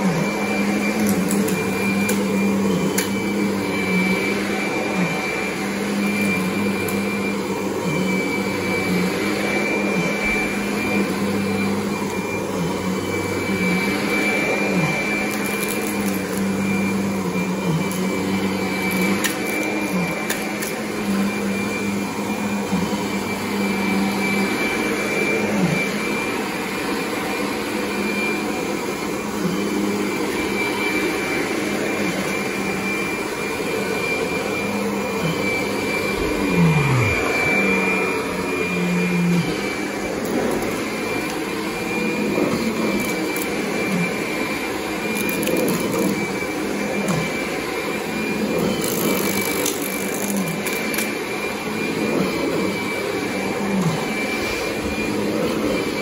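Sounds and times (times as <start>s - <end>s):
upright vacuum running on carpet: 0.0s - 56.0s.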